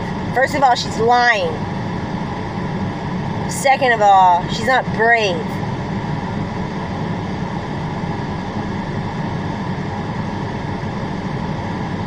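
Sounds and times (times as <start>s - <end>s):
air-conditioning fan blowing: 0.0s - 12.0s.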